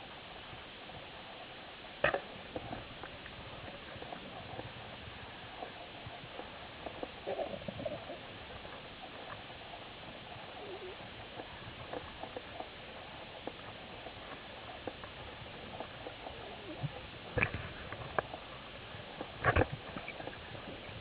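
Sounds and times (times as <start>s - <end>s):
sharp clicks and crackles: 2.0s - 21.0s.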